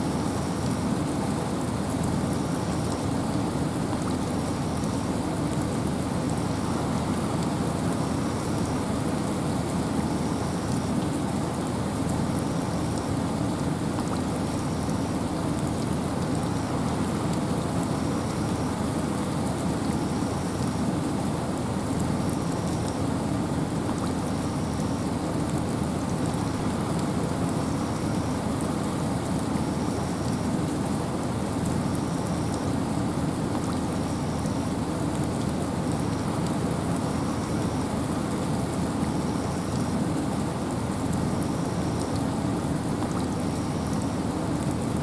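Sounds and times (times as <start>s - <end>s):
patter of raindrops: 0.0s - 45.0s
rain and wind in forest: 0.0s - 45.0s.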